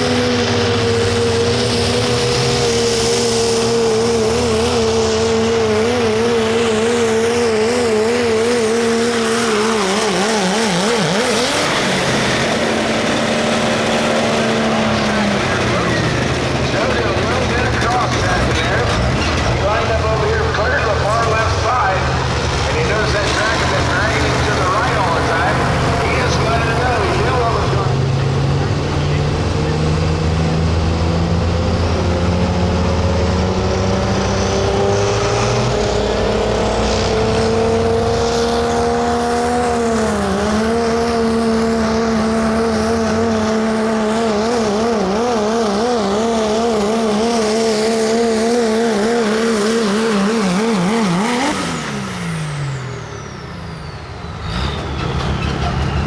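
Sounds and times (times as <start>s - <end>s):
truck engine at full throttle: 0.0s - 56.0s.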